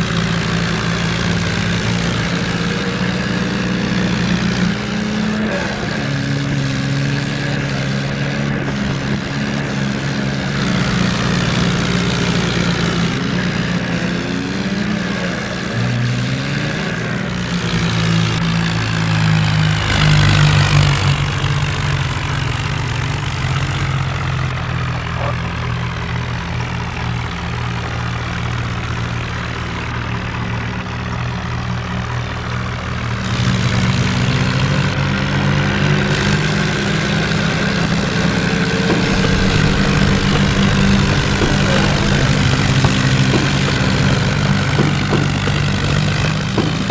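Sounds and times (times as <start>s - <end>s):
tractor diesel engines straining: 0.0s - 46.9s.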